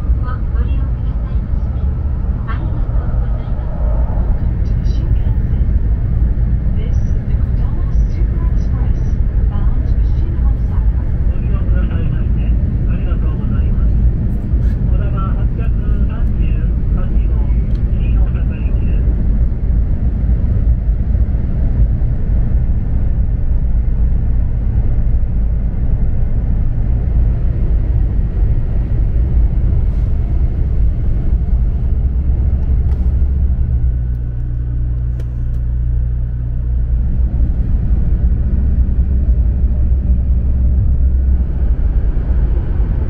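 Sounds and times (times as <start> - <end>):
deep rumble of moving train: 0.0 - 43.0.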